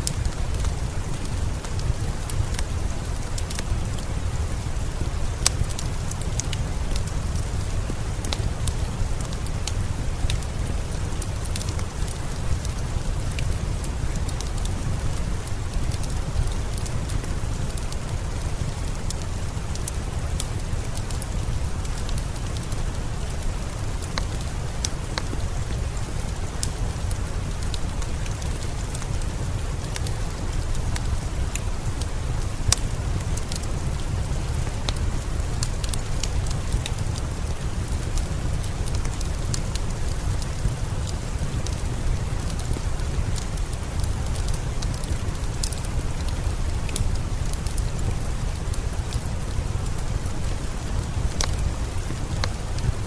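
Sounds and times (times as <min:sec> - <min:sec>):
steady rain: 0:00.0 - 0:53.0
wood fire crackling: 0:00.0 - 0:53.0.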